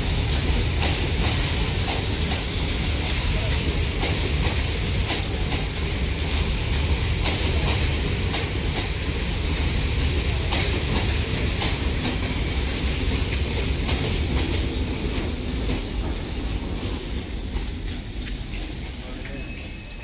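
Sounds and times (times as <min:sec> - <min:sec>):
train coaches rumbling past: 0:00.0 - 0:20.0
wheels clacking over rail joints: 0:00.3 - 0:20.0.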